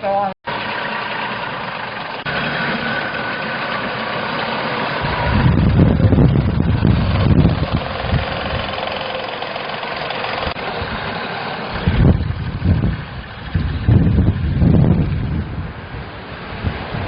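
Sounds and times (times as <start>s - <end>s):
utility vehicle engine running: 0.5s - 17.0s
low uneven rumbling: 1.5s - 9.4s, 10.3s - 17.0s.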